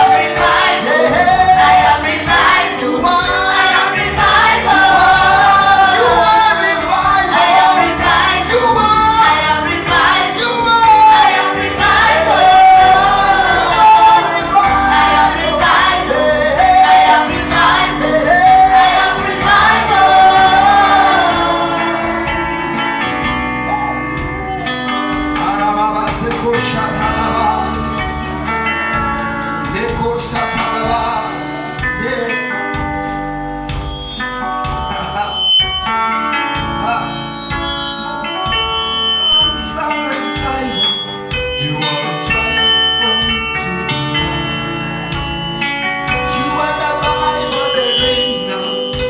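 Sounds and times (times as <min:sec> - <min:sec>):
instrumental accompaniment: 0:00.0 - 0:49.0
voices singing gospel song: 0:00.0 - 0:49.0.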